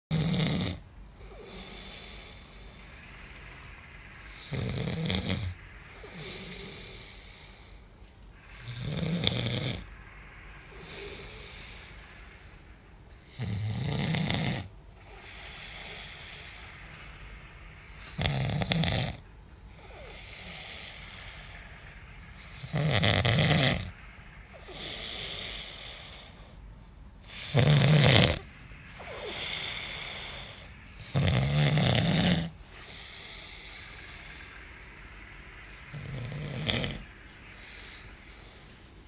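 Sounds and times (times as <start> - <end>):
man snoring: 0.1 - 7.8, 8.4 - 12.5, 13.1 - 17.2, 17.9 - 26.6, 27.2 - 38.8
quiet breaths: 0.1 - 39.0.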